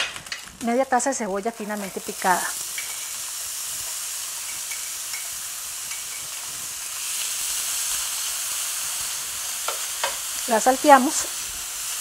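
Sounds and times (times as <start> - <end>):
onion sizzling in a skillet: 0.0 - 12.0.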